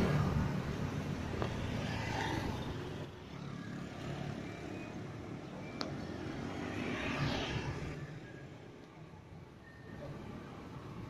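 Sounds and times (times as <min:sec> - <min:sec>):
vehicles passing on street: 0:00.0 - 0:11.0.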